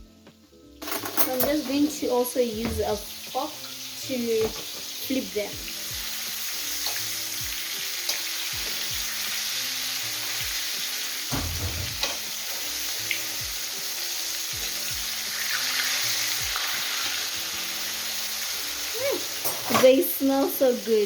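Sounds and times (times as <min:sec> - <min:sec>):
quiet background music with beat: 0:00.0 - 0:21.0
chicken deep-frying in oil: 0:01.8 - 0:21.0.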